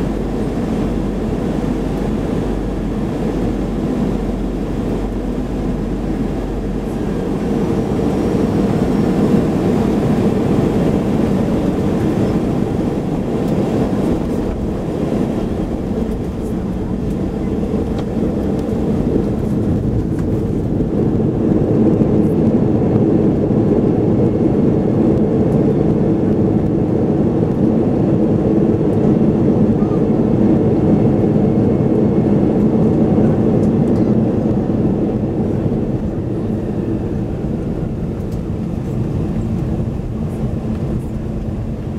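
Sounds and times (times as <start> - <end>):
airplane cabin engine rumble: 0.0 - 41.9.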